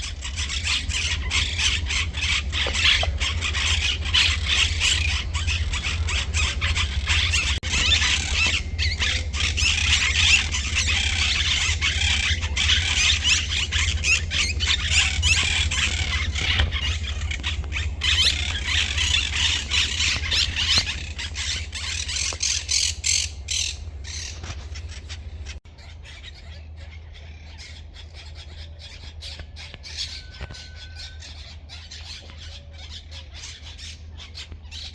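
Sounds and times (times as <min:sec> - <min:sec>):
small birds chirping: 0:00.0 - 0:34.9
steady low hum: 0:00.0 - 0:34.9.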